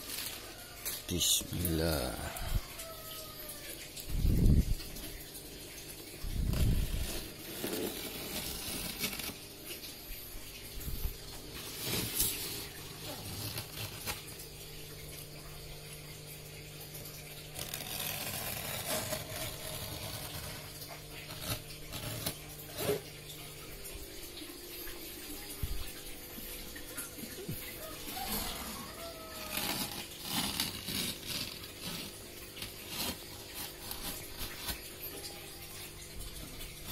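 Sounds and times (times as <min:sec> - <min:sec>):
water running and splashing: 0:00.0 - 0:36.9.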